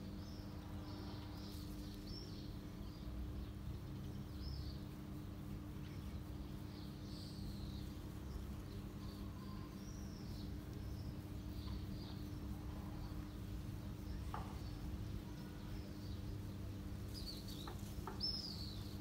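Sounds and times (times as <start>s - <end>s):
low background hum: 0.0s - 19.0s
small birds twittering: 0.0s - 19.0s.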